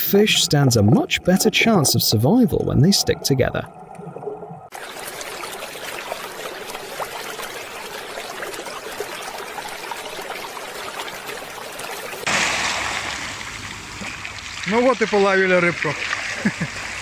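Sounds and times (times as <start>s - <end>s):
water running and trickling: 0.0s - 17.0s.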